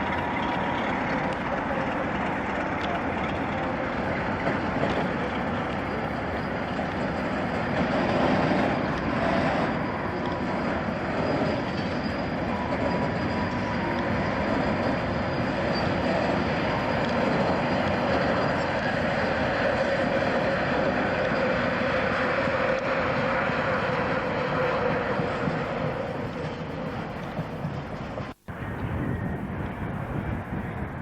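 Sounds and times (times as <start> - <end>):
faint high whines: 0.0 - 31.0
train rumbling on track: 0.0 - 31.0.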